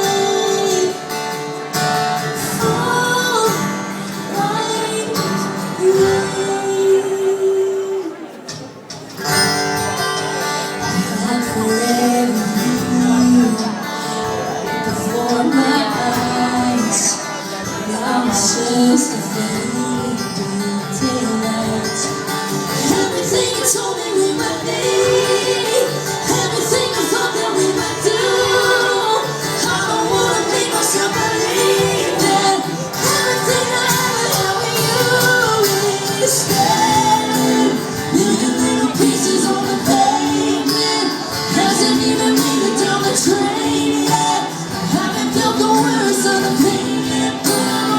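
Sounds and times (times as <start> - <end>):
guitar accompaniment: 0.0 - 47.9
woman singing country song: 0.0 - 47.9.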